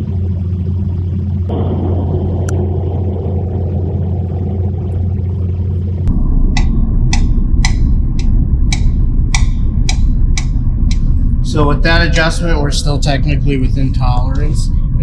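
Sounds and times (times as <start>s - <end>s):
machine hum: 0.0s - 15.0s
rough machine rumble with ticks: 0.0s - 15.0s.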